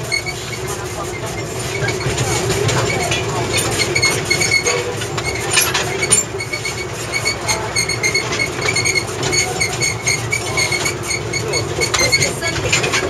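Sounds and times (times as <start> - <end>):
short high squeaks: 0.0 - 13.0
train wheels rumbling: 0.0 - 13.0.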